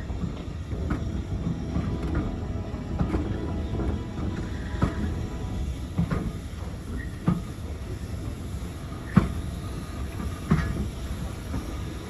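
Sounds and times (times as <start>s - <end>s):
railway carriage rumbling: 0.0s - 12.0s.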